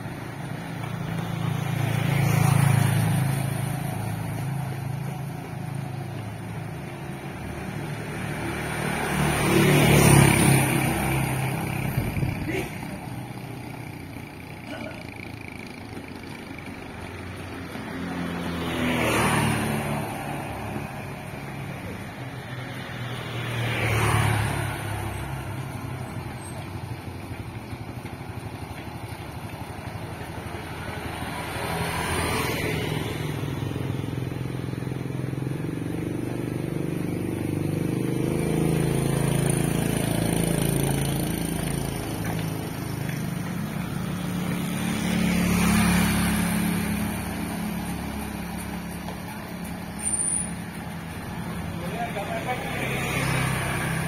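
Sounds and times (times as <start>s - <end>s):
motorbikes passing by: 0.0s - 54.0s.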